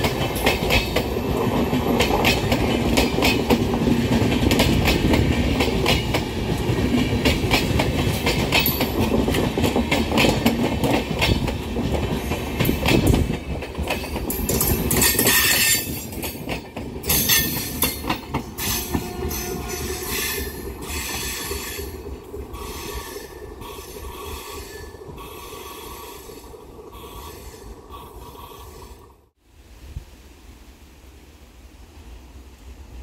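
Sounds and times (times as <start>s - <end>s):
train wheels clattering over rail joints: 0.0s - 26.6s.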